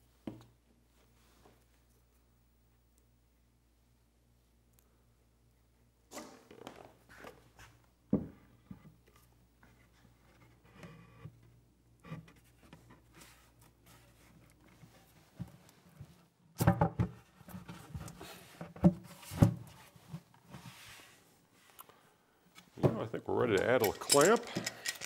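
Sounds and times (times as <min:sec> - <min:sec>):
soft rubbing and handling: 0:00.0 - 0:04.7, 0:06.8 - 0:16.4, 0:17.2 - 0:24.3.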